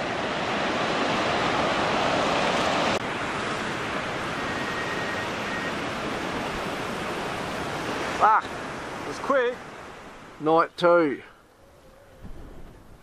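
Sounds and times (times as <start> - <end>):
surf breaking on beach: 0.0 - 11.0
wind: 0.0 - 13.0.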